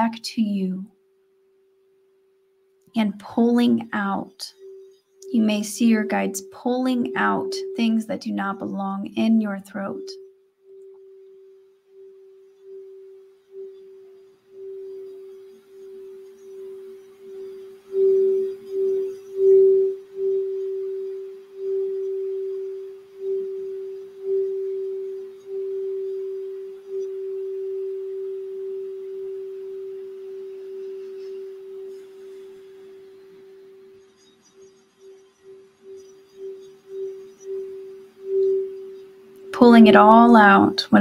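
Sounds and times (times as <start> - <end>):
singing bowl pulsing tone: 1.4 - 41.0.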